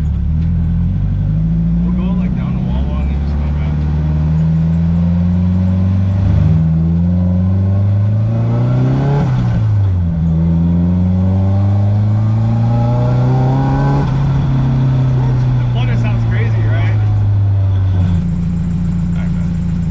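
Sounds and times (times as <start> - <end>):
car engine accelerating through gears: 0.0 - 19.9.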